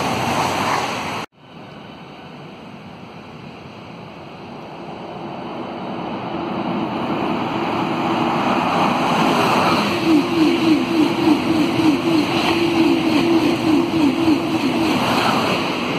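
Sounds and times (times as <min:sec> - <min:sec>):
high-speed train passing: 0:00.0 - 0:15.9
rush of air and rail noise: 0:00.0 - 0:15.9.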